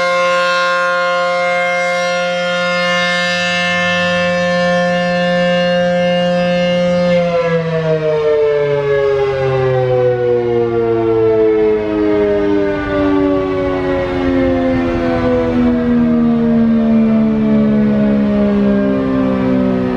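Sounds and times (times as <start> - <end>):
warning siren alert tone: 0.0 - 19.9.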